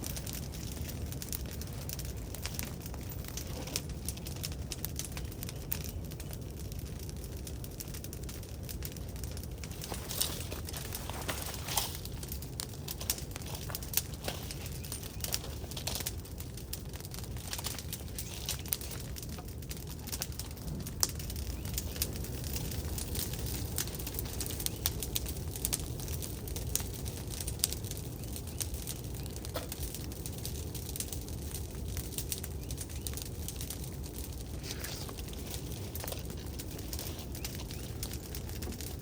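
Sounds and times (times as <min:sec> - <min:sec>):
brush fire crackling and popping: 0:00.0 - 0:39.0.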